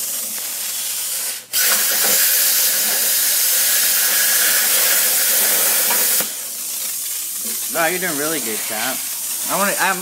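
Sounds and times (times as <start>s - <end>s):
plasma cutter hissing: 0.0s - 10.0s.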